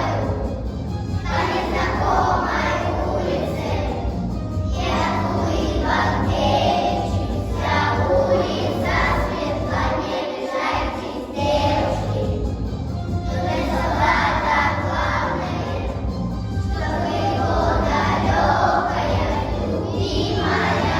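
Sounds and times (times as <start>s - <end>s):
music: 0.0s - 20.9s
children singing in chorus: 1.3s - 4.0s, 4.7s - 12.5s, 13.4s - 16.0s, 16.8s - 20.9s.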